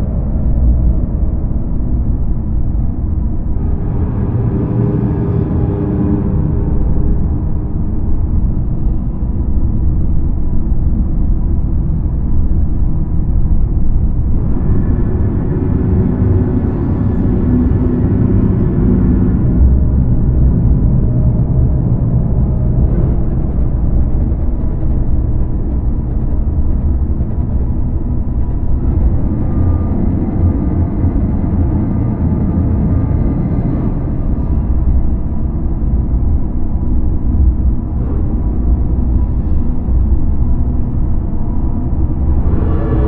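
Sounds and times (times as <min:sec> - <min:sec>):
dark ambient drone music: 0:00.0 - 0:43.0
deep low rumble: 0:00.0 - 0:43.0.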